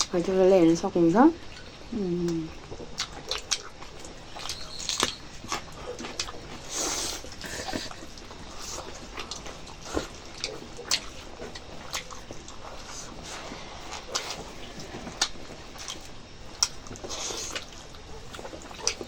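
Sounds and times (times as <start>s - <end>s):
wet mouth clicks while chewing: 1.5s - 19.0s.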